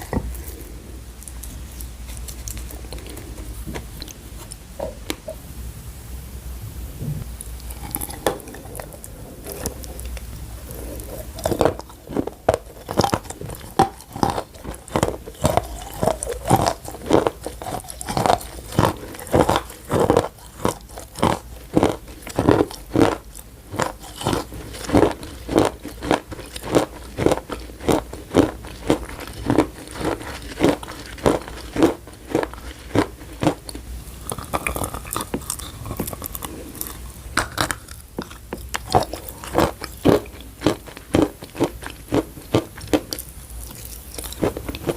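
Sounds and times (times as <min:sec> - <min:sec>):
crunchy chewing of chalk: 0:00.0 - 0:05.2, 0:07.4 - 0:44.9.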